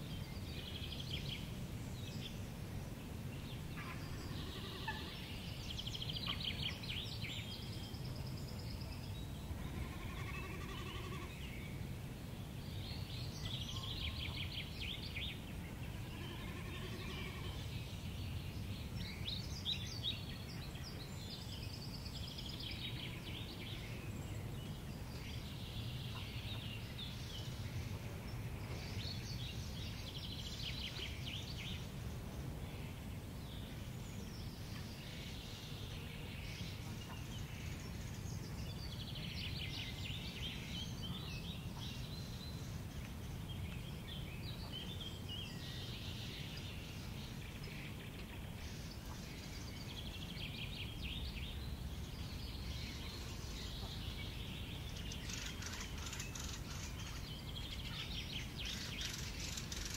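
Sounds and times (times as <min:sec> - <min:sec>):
songbirds trilling: 0:00.0 - 0:59.9.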